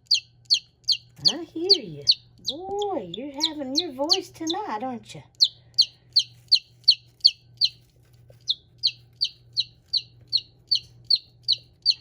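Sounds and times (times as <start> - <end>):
baby chick peeping: 0.0 - 12.0.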